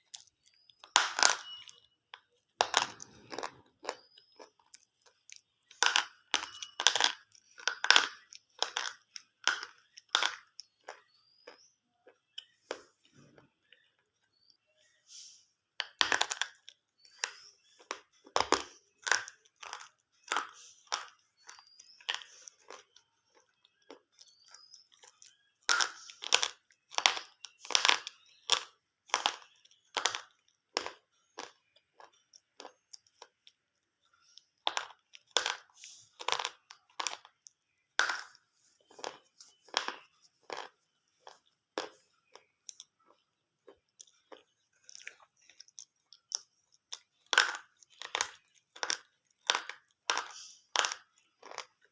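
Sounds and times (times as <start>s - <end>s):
pencils being chewed: 0.0s - 51.9s.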